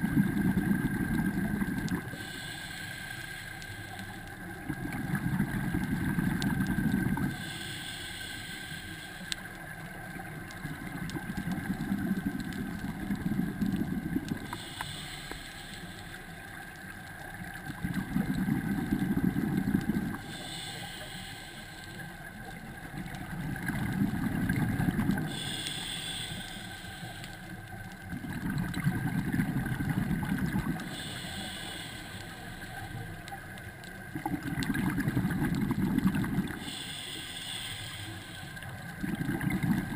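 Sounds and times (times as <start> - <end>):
exhaled bubbles bubbling underwater: 0.0 - 2.8, 4.0 - 39.9
regulator hiss on inhale: 0.1 - 34.0, 35.2 - 39.9.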